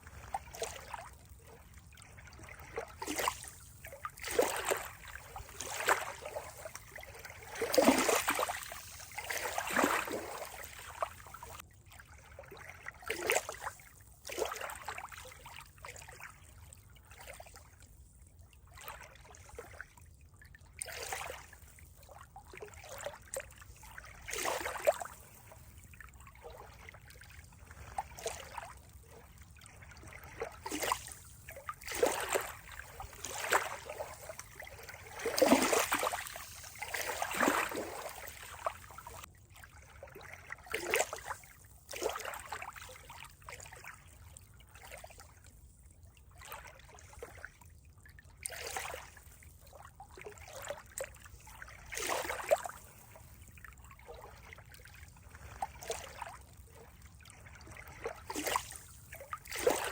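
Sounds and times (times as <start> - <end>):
water trickling and gurgling: 0.0 - 59.9.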